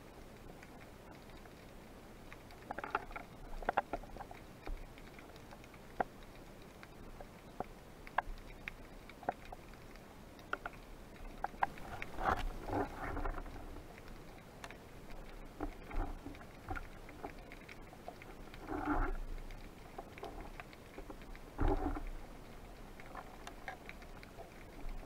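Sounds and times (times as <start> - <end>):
faint underwater clicks and crackles: 0.0 - 25.0
muffled rushes of water: 0.0 - 25.0.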